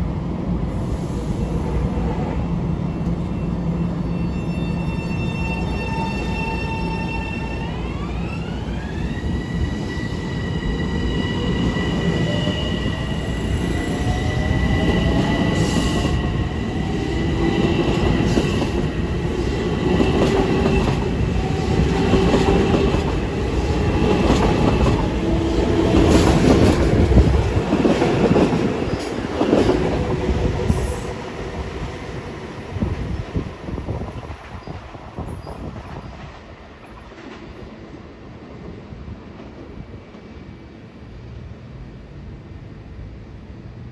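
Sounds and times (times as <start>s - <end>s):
wheels squealing and clicking on rails: 0.8s - 31.4s, 32.6s - 37.8s.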